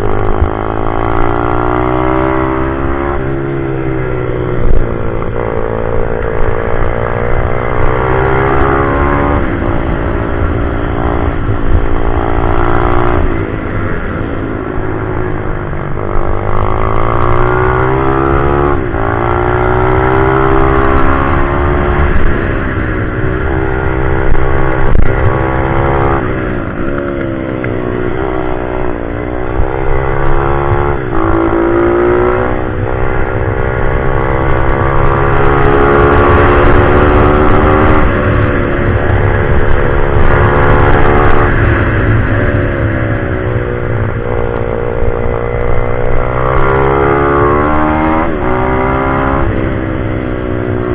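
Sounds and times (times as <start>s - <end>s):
motorbike engine revving: 0.0s - 50.9s.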